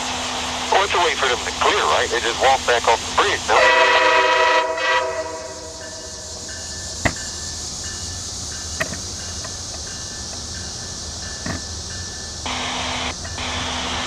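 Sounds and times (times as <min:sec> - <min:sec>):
train hiss and rumble: 0:00.0 - 0:14.0.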